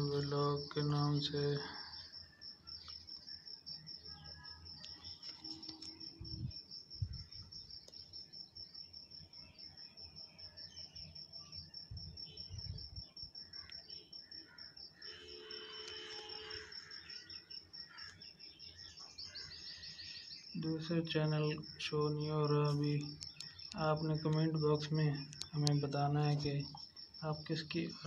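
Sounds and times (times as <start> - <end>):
insect-like chirping: 0.0 - 28.0.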